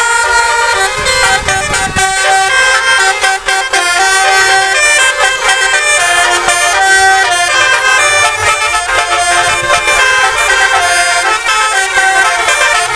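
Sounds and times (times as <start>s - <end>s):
tuned air horns playing a tune: 0.0s - 12.9s.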